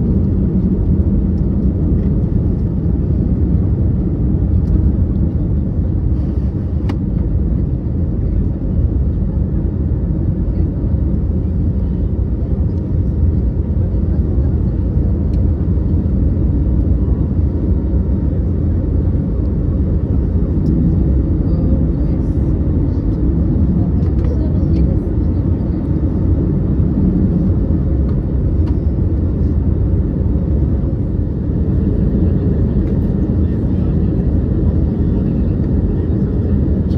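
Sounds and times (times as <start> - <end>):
airplane cabin engine rumble: 0.0 - 36.9.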